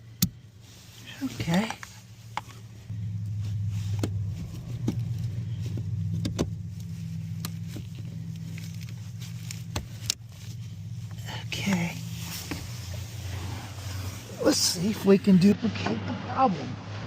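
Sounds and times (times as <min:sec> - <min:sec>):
car engine idling: 0:00.0 - 0:15.5.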